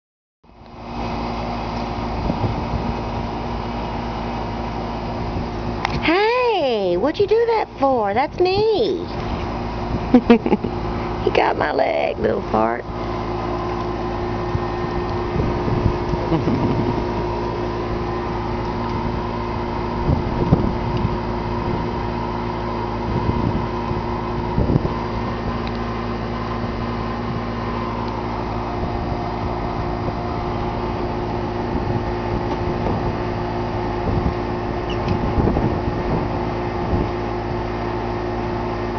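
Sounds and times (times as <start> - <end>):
steady mechanical hum: 0.5 - 38.9.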